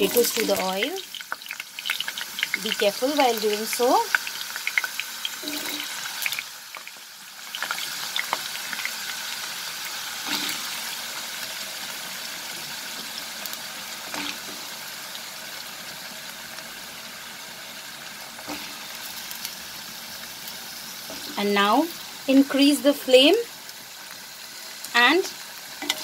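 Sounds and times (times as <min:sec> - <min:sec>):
potatoes sizzling in hot oil: 0:00.0 - 0:26.0.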